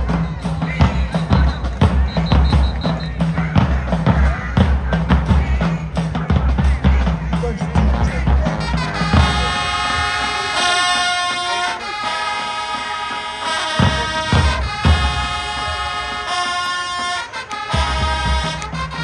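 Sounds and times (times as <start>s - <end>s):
horns holding chords: 0.0s - 19.0s
marching band playing: 0.0s - 19.0s.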